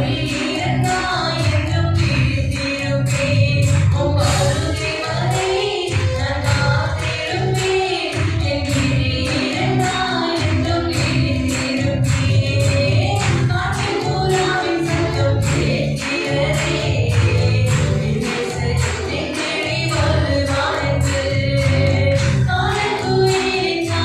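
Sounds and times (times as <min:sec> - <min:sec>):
bass and percussion beat: 0:00.0 - 0:24.0
voices singing: 0:00.0 - 0:24.0.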